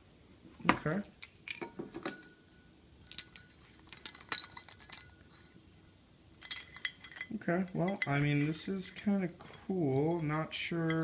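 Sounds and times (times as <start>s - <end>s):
hard objects clinking and rattling: 0.7s - 5.7s, 6.3s - 11.0s.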